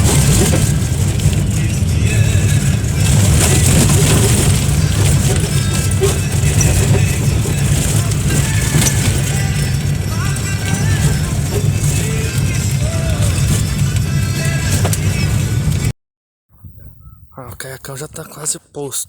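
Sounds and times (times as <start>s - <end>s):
motor vehicle engine rumble: 0.0s - 15.9s
rushing noise: 0.0s - 15.9s.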